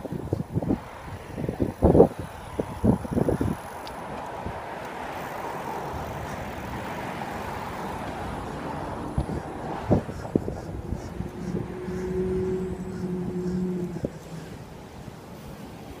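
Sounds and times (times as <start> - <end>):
road traffic rushing: 0.0 - 16.0
wind buffeting microphone: 0.0 - 16.0.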